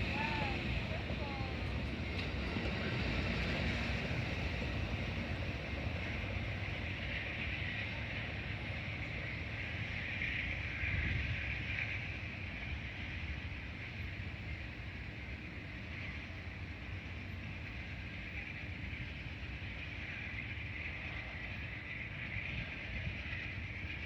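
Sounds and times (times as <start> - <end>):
high hiss of train: 0.0 - 24.0
train rumbling on tracks: 0.0 - 24.0.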